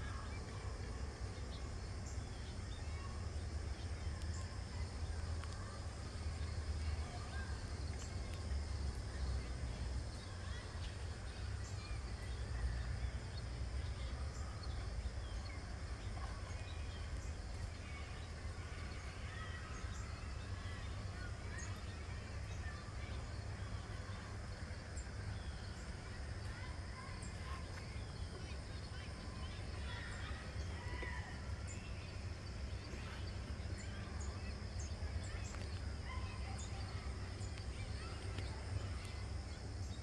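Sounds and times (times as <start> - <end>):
faint bird chirps: 0.0 - 40.0.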